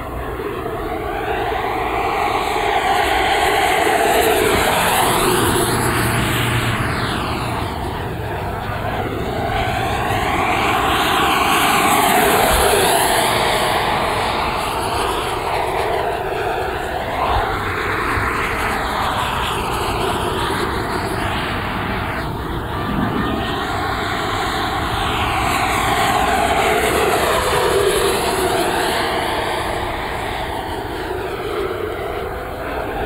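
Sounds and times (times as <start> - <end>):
model jet flying past: 0.0 - 33.0.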